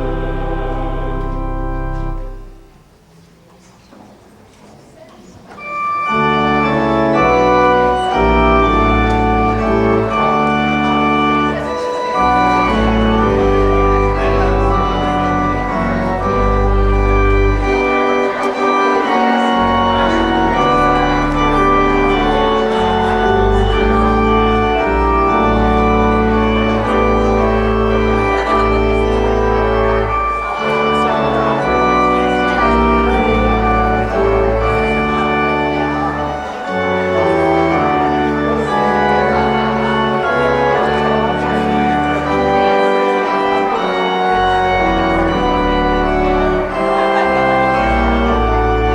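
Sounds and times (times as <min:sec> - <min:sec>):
instrumental music with held chords: 0:00.0 - 0:03.0, 0:05.6 - 0:48.9.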